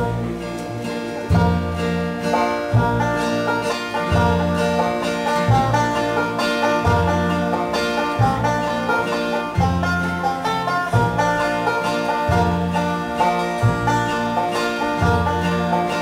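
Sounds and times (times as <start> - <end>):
acoustic guitar: 0.0 - 16.0
banjo picking: 0.0 - 16.0
upright bass notes: 0.0 - 16.0.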